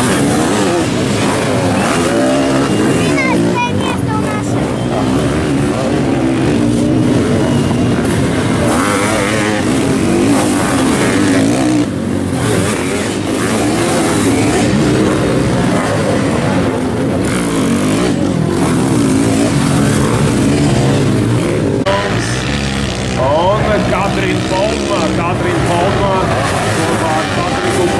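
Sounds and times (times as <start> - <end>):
motocross engines revving: 0.0 - 27.9.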